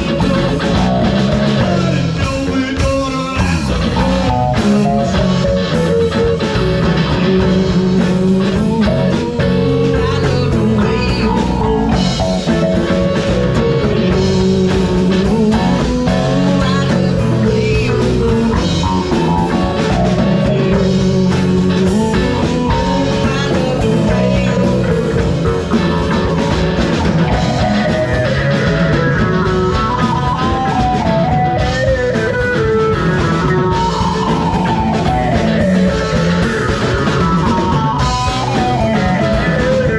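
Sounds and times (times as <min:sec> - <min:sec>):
folk rock band playing: 0:00.0 - 0:39.9.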